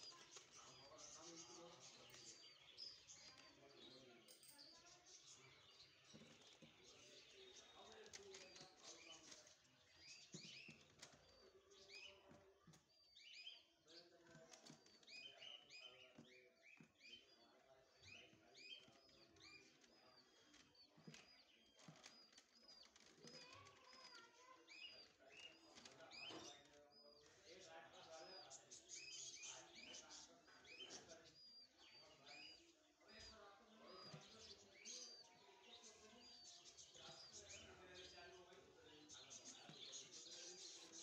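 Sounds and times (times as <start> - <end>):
faint voices: 0.0 - 41.0
small birds chirping: 0.0 - 41.0.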